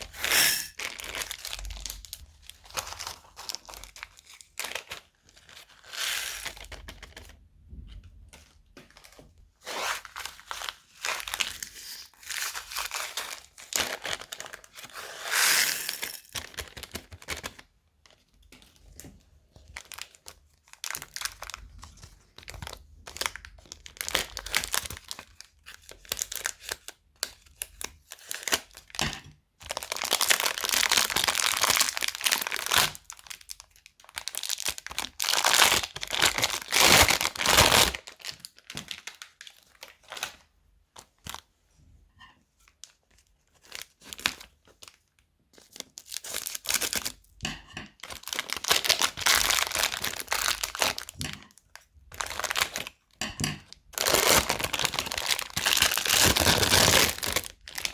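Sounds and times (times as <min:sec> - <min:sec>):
plastic bags crinkling and tearing: 0:00.0 - 0:07.4, 0:08.9 - 0:17.6, 0:19.6 - 0:40.4, 0:43.5 - 0:47.3, 0:47.9 - 0:57.9.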